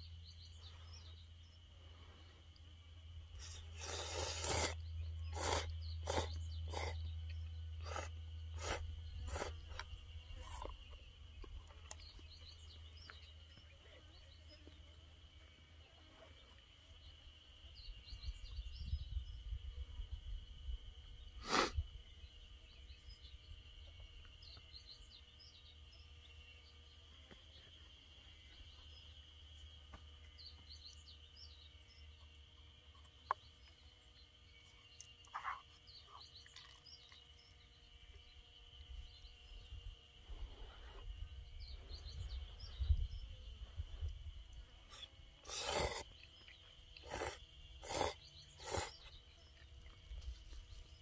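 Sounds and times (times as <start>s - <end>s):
high insect drone: 0.0s - 51.0s.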